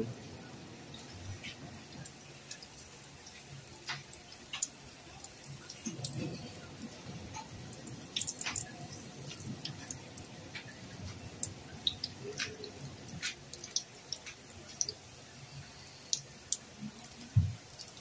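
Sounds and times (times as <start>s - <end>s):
dough sizzling in hot oil: 0.8s - 18.0s.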